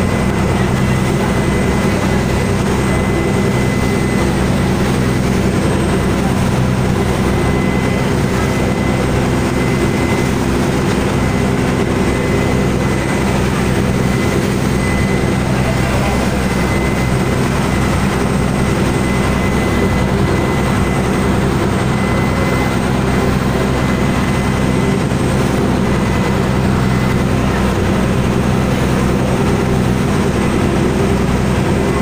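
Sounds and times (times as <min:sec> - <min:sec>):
boat engine humming: 0:00.0 - 0:32.0
wake rushing water: 0:00.0 - 0:32.0.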